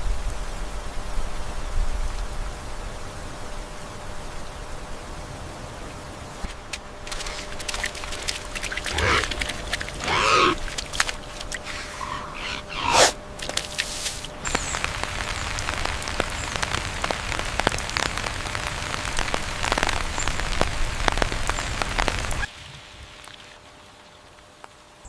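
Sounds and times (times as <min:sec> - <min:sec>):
rain drops ticking on surfaces: 0:00.0 - 0:10.0, 0:13.4 - 0:25.0.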